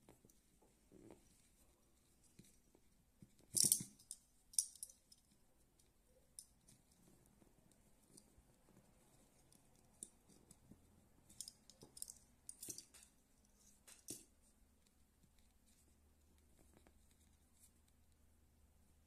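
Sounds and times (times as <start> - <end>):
cord rustling and scratching: 0.0 - 18.4.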